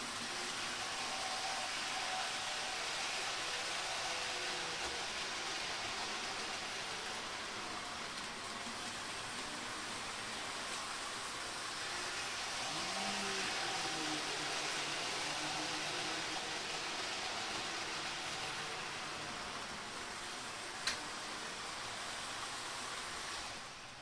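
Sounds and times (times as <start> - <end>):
model train wheels and motor: 0.0 - 24.0.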